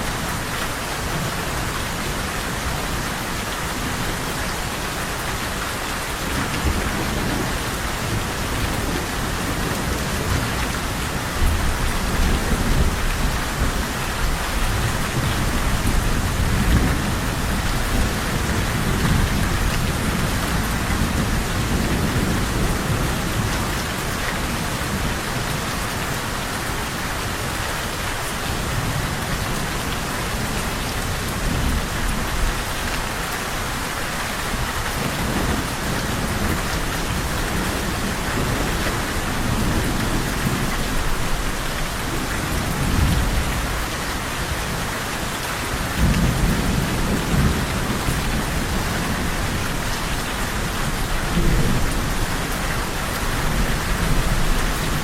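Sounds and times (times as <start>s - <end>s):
rain falling: 0.0s - 55.0s
rolling thunder: 0.0s - 55.0s.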